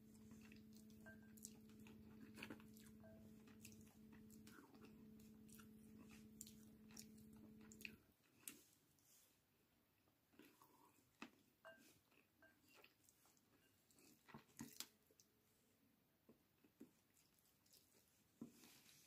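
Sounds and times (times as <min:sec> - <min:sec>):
soft chewing: 0:00.0 - 0:19.0.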